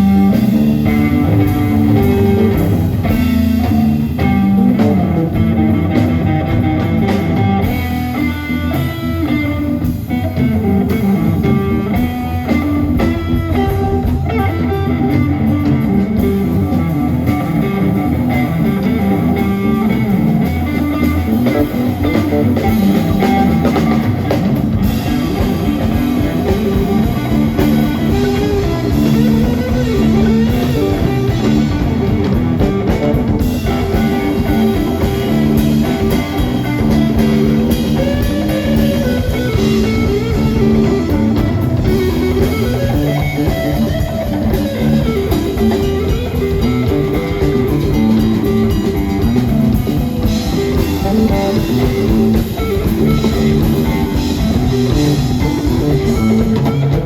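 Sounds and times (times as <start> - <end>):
bass guitar: 0.0 - 57.0
drum kit: 0.0 - 57.0
electric guitar lead lines: 0.0 - 57.0.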